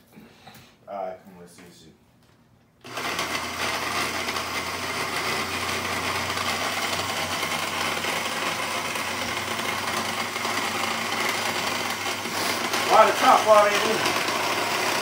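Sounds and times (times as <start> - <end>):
blender motor running: 2.8 - 15.0.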